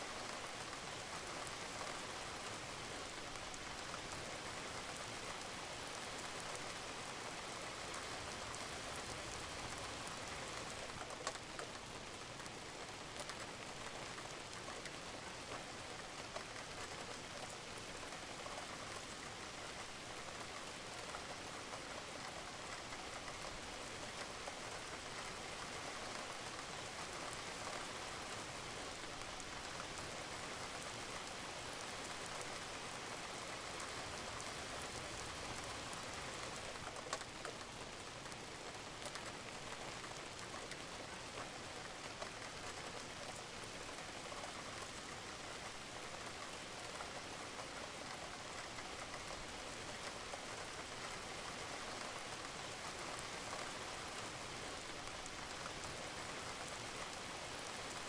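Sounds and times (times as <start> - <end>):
rain falling on a roof: 0.0 - 58.0
raindrops pattering: 0.1 - 58.0.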